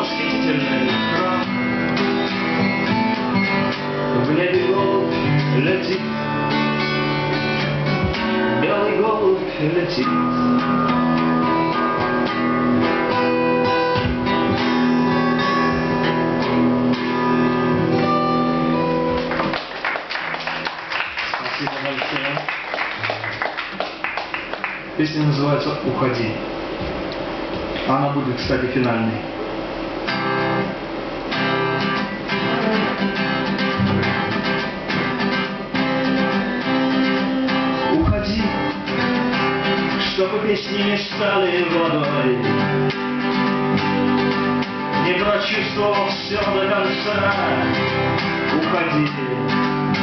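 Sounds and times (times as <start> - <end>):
acoustic guitars strumming and picking: 0.0 - 50.0.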